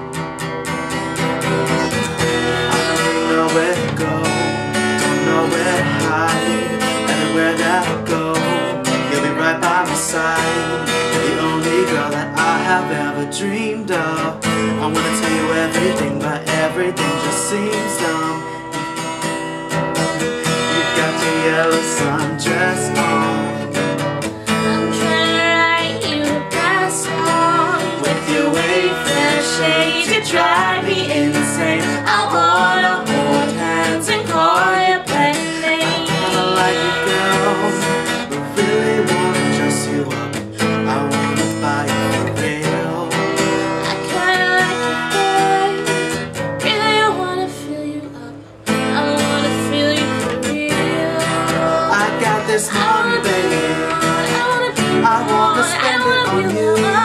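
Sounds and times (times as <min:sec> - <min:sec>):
acoustic guitar: 0:00.0 - 0:57.0
man singing: 0:01.7 - 0:18.9, 0:20.3 - 0:45.9, 0:49.0 - 0:57.0.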